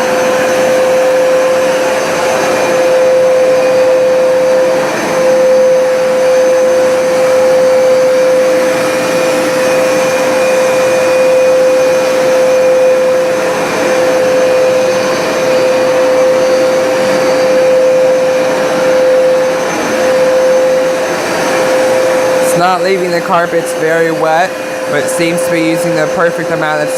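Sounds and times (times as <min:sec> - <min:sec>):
carpet cleaner motor whine: 0:00.0 - 0:26.9.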